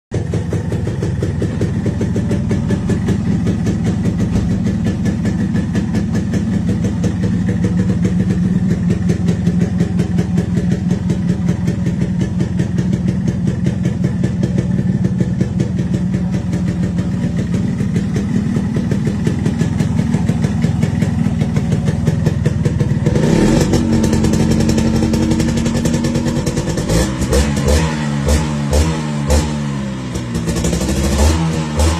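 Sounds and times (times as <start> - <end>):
motorcycle engine idling and revving: 0.1 - 31.9.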